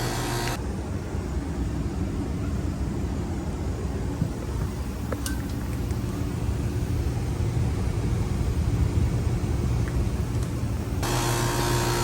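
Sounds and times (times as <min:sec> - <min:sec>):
air conditioner unit humming: 0:00.0 - 0:12.0.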